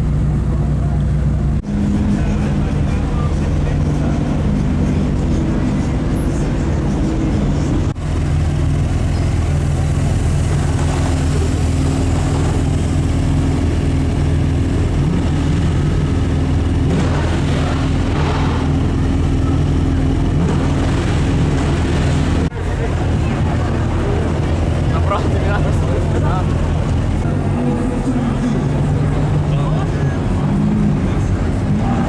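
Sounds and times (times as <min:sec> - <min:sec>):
sports car engine idling: 0:00.0 - 0:32.0.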